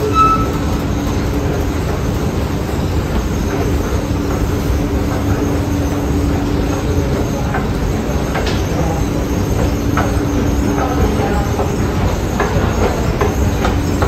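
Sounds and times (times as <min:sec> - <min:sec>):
constant hum: 0:00.0 - 0:14.0.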